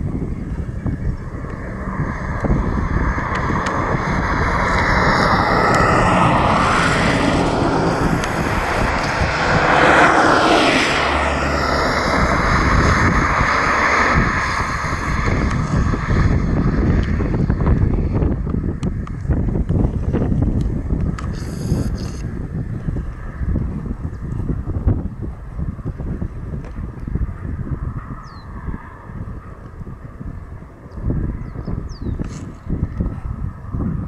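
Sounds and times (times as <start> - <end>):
propeller airplane passing: 0.0 - 34.0
wind rumble on microphone: 0.0 - 34.0.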